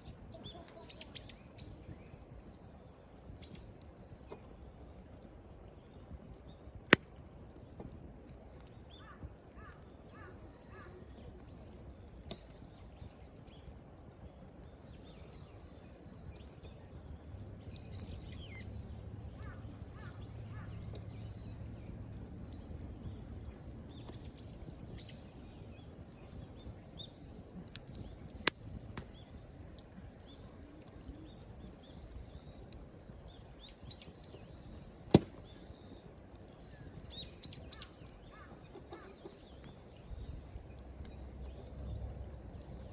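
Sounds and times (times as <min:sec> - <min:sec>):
small birds chirping: 0:00.0 - 0:04.2, 0:04.8 - 0:42.9
campfire crackling and popping: 0:00.0 - 0:42.9.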